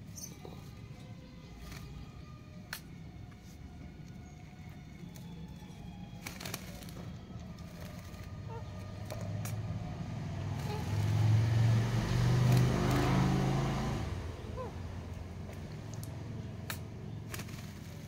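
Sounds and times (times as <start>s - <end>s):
vehicle engine hum passing: 0.0s - 18.0s.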